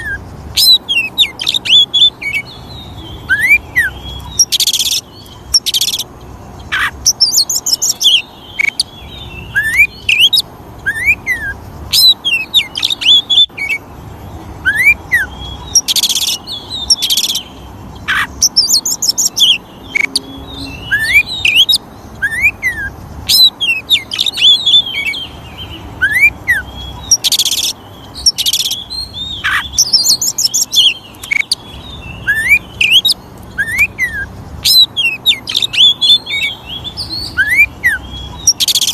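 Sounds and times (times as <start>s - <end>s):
bird singing whistles and trills: 0.0s - 38.9s
harsh rasping bird calls: 0.0s - 38.9s.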